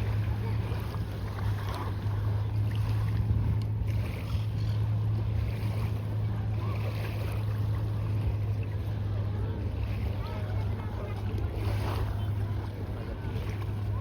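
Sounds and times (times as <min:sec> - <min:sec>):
steady low hum: 0:00.0 - 0:14.0
surf: 0:00.0 - 0:14.0
wind: 0:00.0 - 0:14.0.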